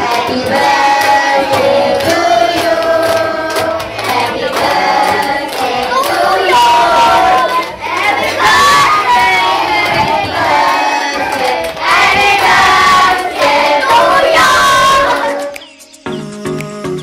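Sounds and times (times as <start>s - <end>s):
hands clapping in time: 0.0s - 6.6s, 9.2s - 17.0s
group singing: 0.0s - 16.6s.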